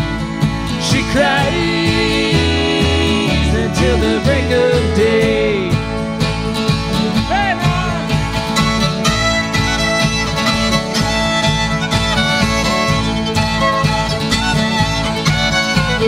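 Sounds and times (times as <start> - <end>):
fiddle melody: 0.0 - 16.0
strummed guitars: 0.0 - 16.0
upright bass: 0.0 - 16.0.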